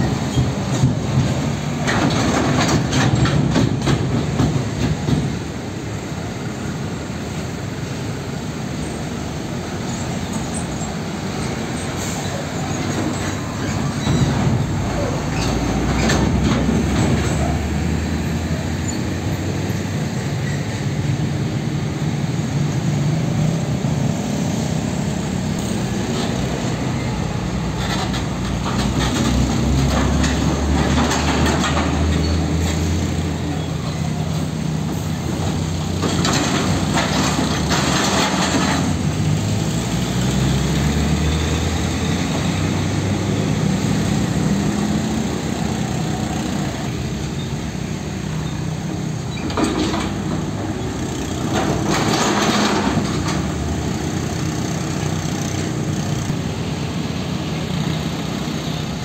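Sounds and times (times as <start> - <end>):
diesel trucks rumbling over crossing: 0.0 - 59.0.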